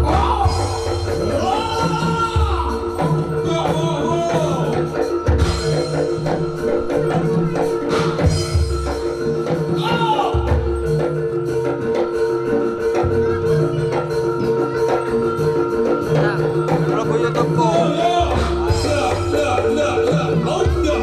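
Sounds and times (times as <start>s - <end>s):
drum beats: 0.0s - 21.0s
high sliding melodic line: 0.0s - 21.0s
struck metallophone notes: 0.0s - 21.0s.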